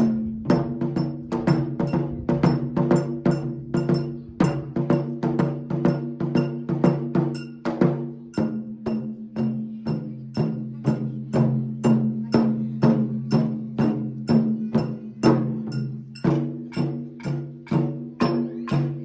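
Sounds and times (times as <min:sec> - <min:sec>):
music with sharp beat strikes: 0:00.0 - 0:19.0.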